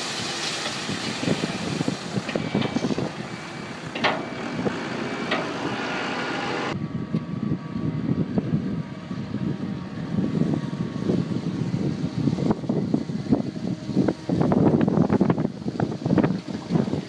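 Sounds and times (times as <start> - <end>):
tractor engine running: 0.0 - 17.0
low rumble of drainer: 0.1 - 17.0.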